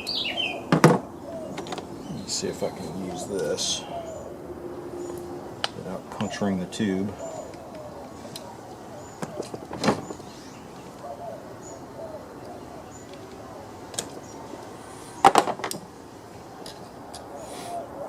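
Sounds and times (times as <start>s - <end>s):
doves cooing: 0.0s - 18.0s.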